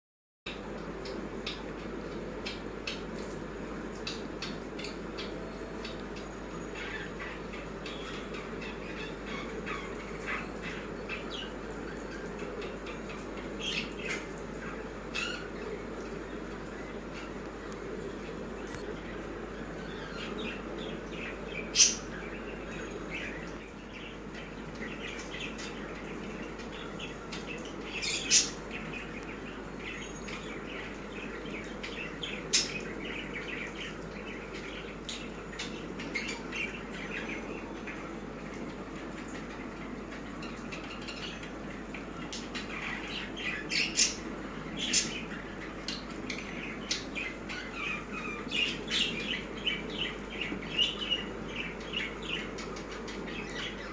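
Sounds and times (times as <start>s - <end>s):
low hum or hiss: 0.5s - 53.9s
small birds chirping: 0.5s - 53.9s.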